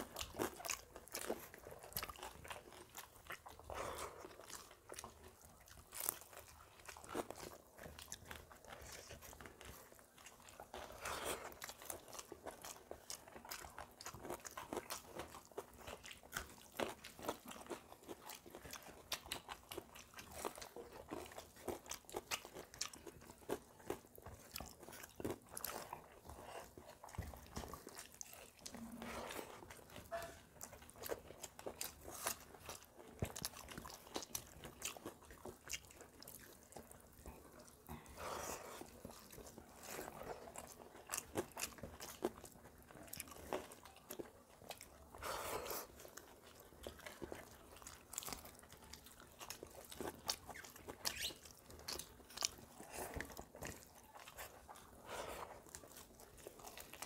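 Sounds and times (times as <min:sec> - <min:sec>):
close-up chewing and mouth sounds: 0:00.0 - 0:57.0.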